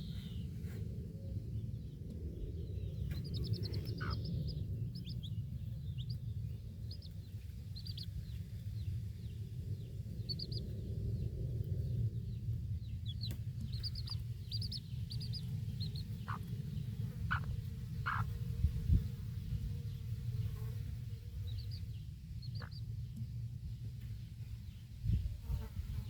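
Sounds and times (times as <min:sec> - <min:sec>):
low outdoor rumble: 0:00.0 - 0:26.0
baby chicks peeping: 0:01.5 - 0:26.0.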